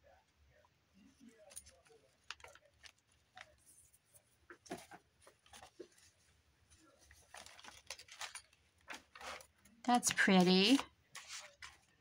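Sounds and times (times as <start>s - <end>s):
paper crinkling: 1.0s - 12.0s
paper rustling and tapping: 1.3s - 3.8s, 4.4s - 12.0s.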